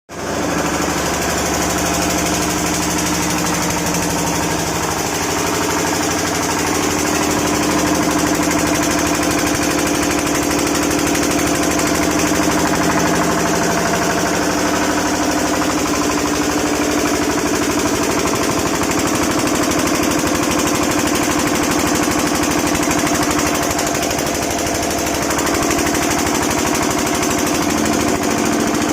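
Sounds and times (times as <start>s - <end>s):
generator engine running: 0.1s - 28.9s.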